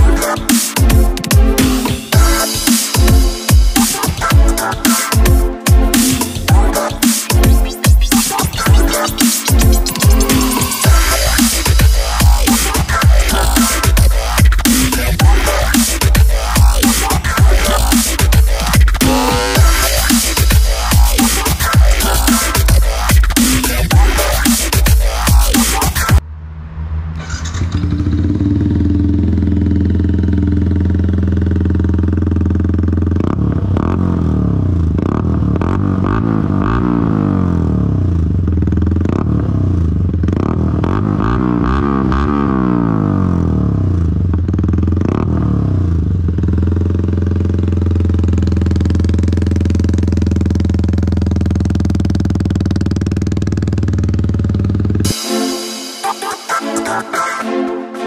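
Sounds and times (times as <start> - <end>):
motorcycle engine idling and revving: 0.0 - 55.2.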